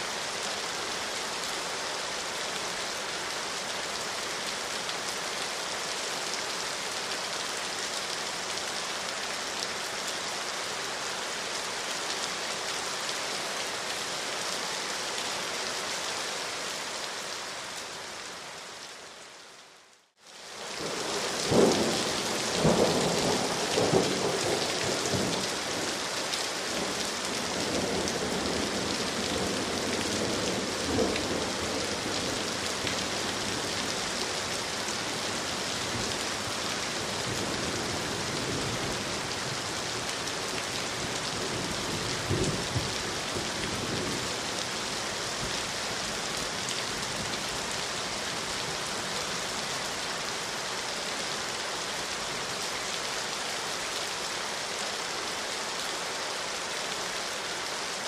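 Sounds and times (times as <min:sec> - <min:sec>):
rain hissing: 0:00.0 - 0:58.0.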